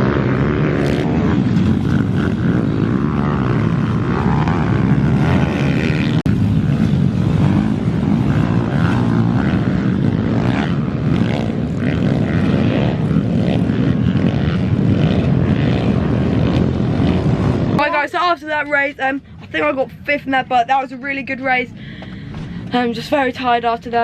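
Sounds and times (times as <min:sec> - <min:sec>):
pit bike engine racing: 0:00.0 - 0:24.0.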